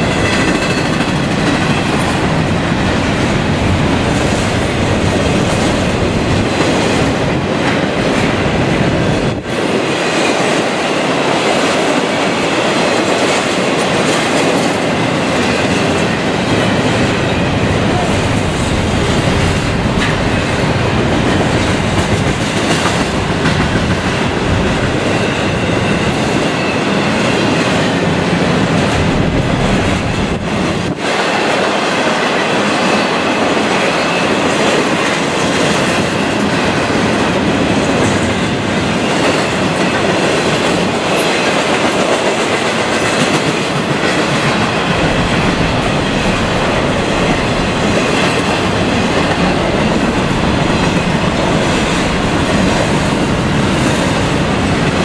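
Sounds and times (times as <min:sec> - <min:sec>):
freight train wheels rolling on rails: 0:00.0 - 0:55.0.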